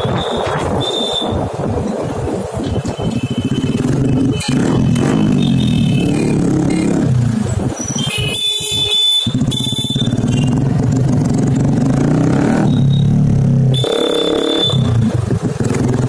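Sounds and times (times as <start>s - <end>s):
motorcycle exhaust running loud: 0.0s - 16.0s.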